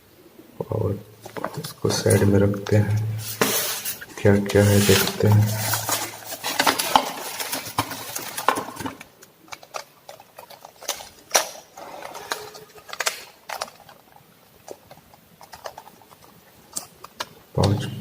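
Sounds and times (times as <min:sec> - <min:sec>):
rustling of plastic packaging: 0:01.2 - 0:17.7.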